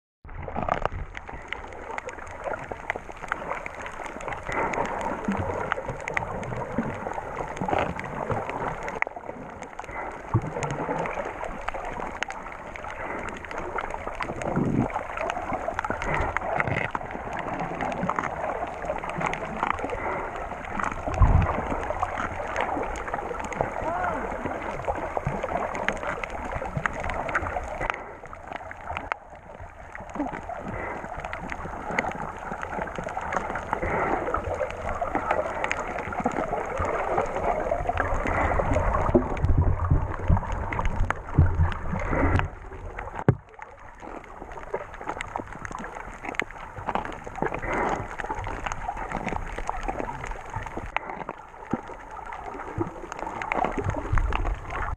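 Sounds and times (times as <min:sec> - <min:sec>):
low rumbles of moving water: 0:00.2 - 0:54.9
underwater sloshing and gurgling: 0:00.2 - 0:54.9.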